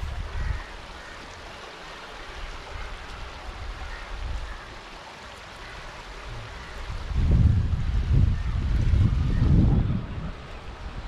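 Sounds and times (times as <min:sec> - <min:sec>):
river flowing: 0:00.0 - 0:11.0.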